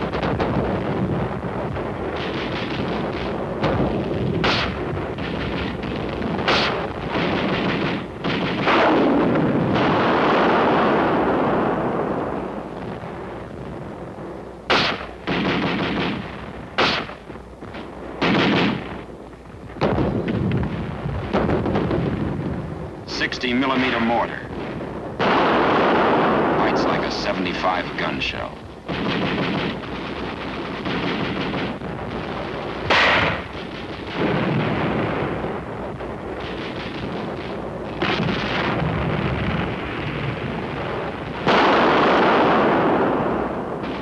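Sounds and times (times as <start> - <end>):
gunfire reports: 0.0 - 12.8, 14.6 - 22.2, 23.0 - 39.8, 40.4 - 44.0
continuous noisy battle din: 0.0 - 44.0
loud explosion blast: 0.0 - 44.0.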